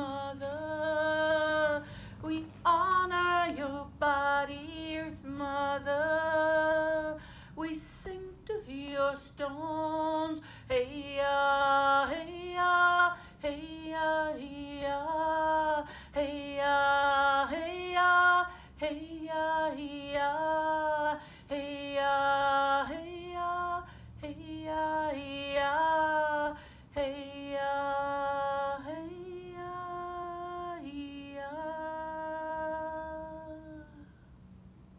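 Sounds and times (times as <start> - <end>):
woman singing unaccompanied: 0.0 - 34.2.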